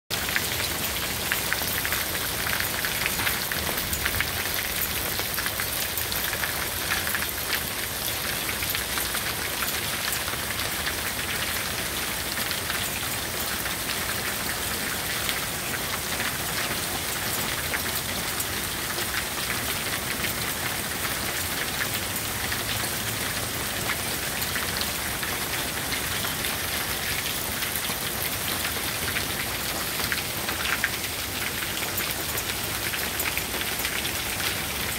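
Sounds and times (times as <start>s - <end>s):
hail and rain on concrete: 0.1s - 34.9s.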